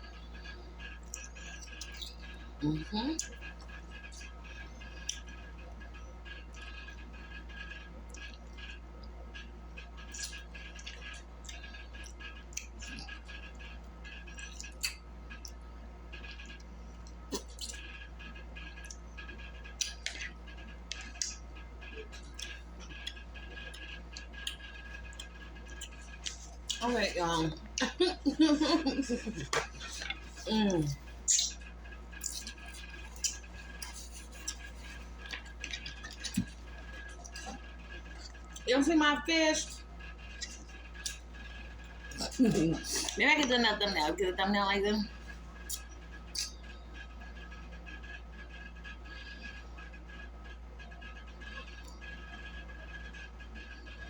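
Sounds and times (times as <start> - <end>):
chewing with clicks and crackles: 0.0 - 54.0
steady low hum: 0.0 - 54.0.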